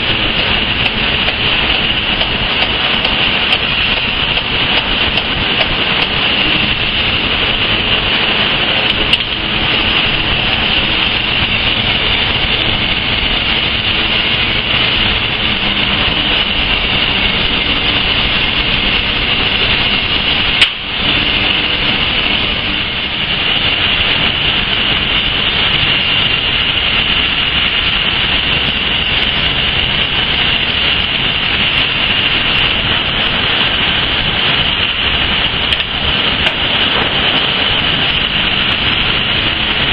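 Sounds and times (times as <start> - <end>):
furnace roaring: 0.0 - 39.9
high hiss: 0.0 - 39.9.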